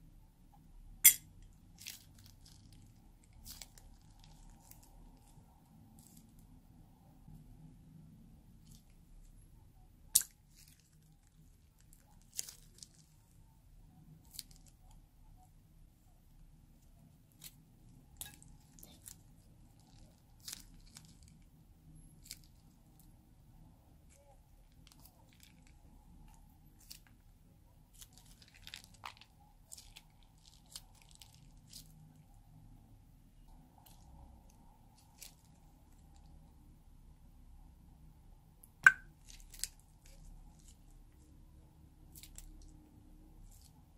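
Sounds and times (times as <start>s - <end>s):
faint low hum: 0.0s - 43.9s
slime squelching: 1.0s - 6.8s, 8.2s - 15.4s, 16.7s - 32.8s, 33.4s - 36.8s, 38.7s - 43.9s.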